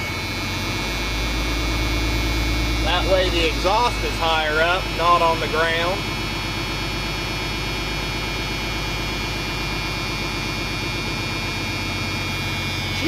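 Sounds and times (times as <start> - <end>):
diesel engine idling: 0.0 - 13.0
warning buzzer tone: 0.0 - 13.0.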